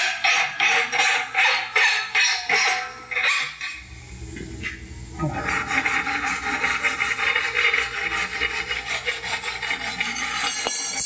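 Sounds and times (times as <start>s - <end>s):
hand file scraping steel: 0.0s - 3.7s, 5.2s - 11.0s.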